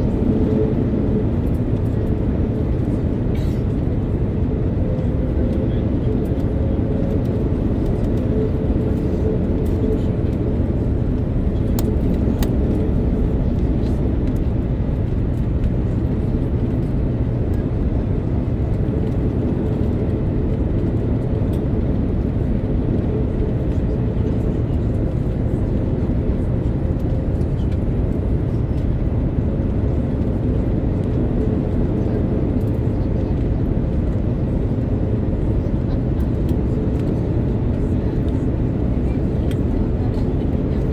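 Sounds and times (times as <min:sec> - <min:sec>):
airflow rushing in cabin: 0:00.0 - 0:40.9
jet engine noise: 0:00.0 - 0:40.9.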